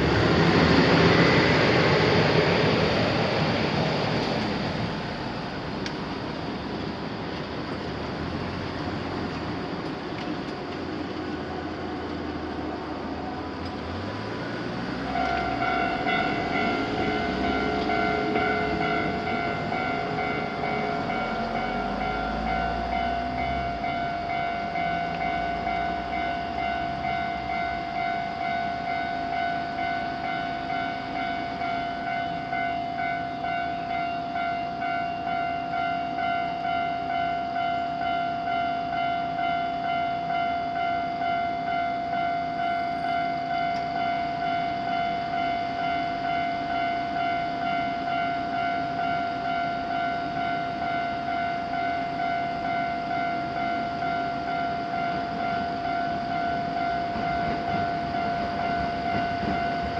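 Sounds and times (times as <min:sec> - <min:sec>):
railroad crossing warning bell: 0:00.0 - 0:59.9.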